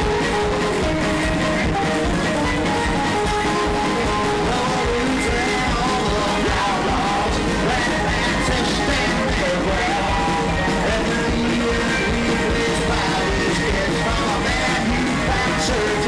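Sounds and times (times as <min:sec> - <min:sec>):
country band playing: 0:00.0 - 0:16.0
person singing lead vocal: 0:00.0 - 0:16.0
upright bass: 0:00.0 - 0:16.0.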